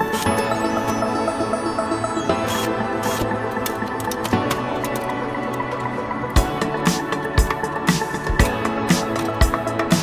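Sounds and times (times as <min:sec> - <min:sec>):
electronic music with soft percussion: 0:00.0 - 0:10.0.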